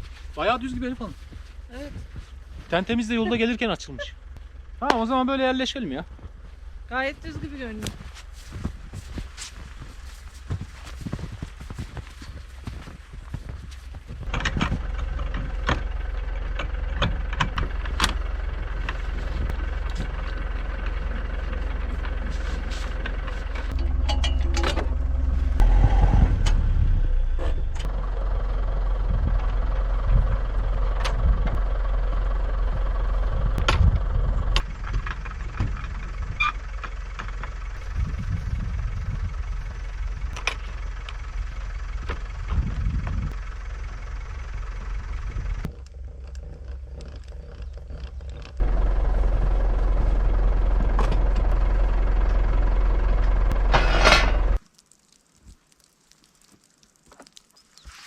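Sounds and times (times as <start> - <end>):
truck engine running: 0.0 - 54.6.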